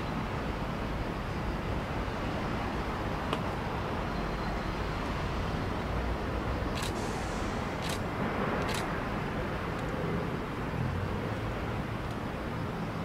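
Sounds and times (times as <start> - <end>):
city traffic: 0.0 - 13.0.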